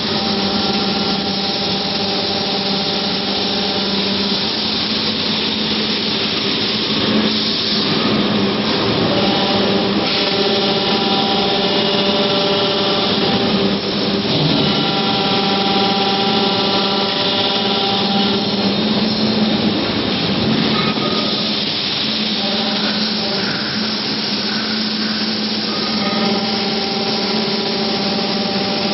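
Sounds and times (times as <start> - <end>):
droning machine hum: 0.0 - 28.9
furnace roaring: 0.0 - 28.9.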